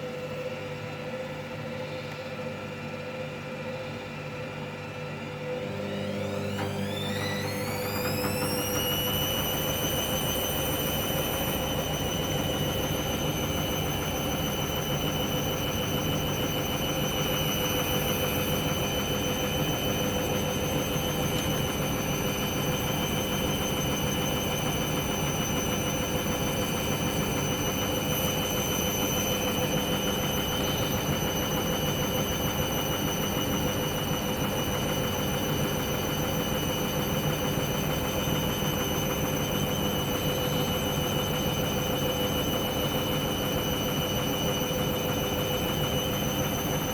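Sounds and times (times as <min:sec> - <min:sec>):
washing machine motor whining: 0:00.0 - 0:46.9.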